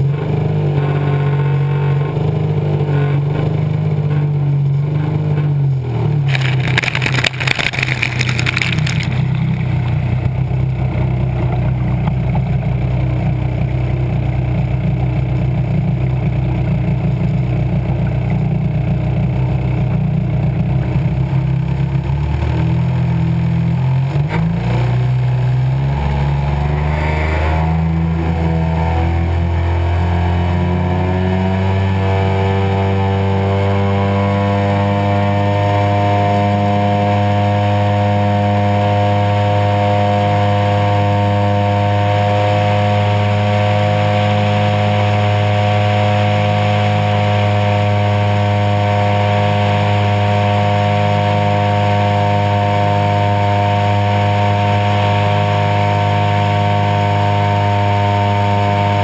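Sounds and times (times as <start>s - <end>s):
two-stroke plane engine and propeller: 0.0s - 59.0s.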